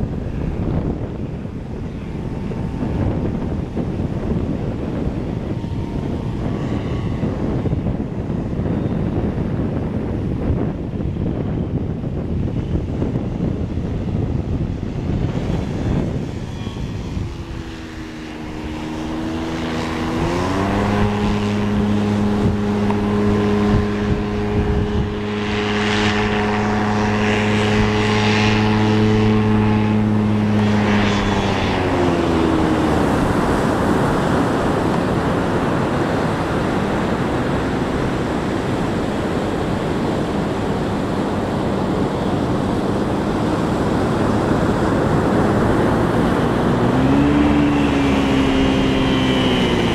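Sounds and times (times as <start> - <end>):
propeller engine drone: 0.0 - 49.9
wind and surf rushing: 0.0 - 49.9.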